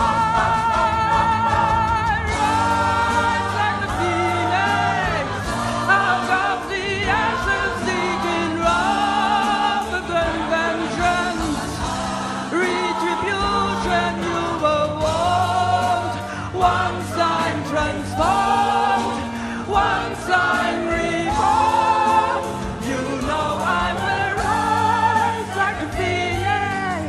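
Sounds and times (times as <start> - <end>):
bass guitar: 0.0 - 27.0
drums: 0.0 - 27.0
mixed choir singing: 0.0 - 27.0
piano: 0.0 - 27.0.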